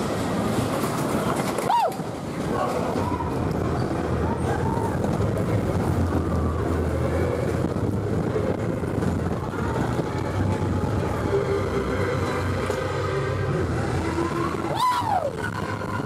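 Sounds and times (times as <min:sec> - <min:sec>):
roller coaster rumbling on track: 0:00.0 - 0:16.0.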